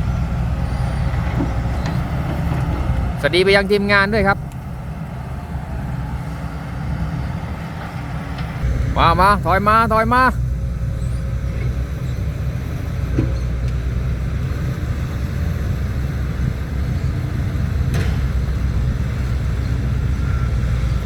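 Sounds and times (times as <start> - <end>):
heavy diesel engines rumbling: 0.0 - 21.0.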